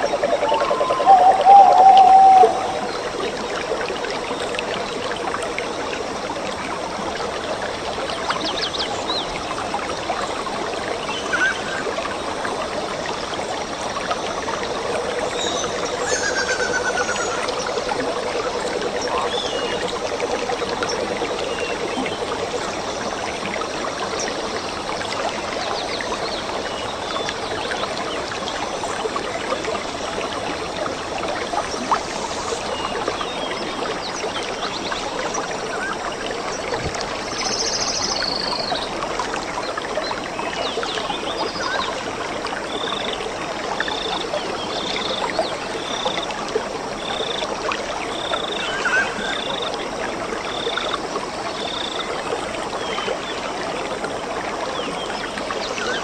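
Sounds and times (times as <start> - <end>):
stream trickling: 0.0 - 56.0.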